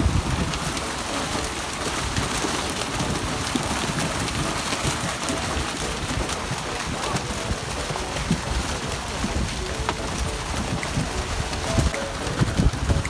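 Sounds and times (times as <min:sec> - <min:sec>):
fish flapping: 0:00.0 - 0:13.0
water splashing: 0:00.0 - 0:13.0.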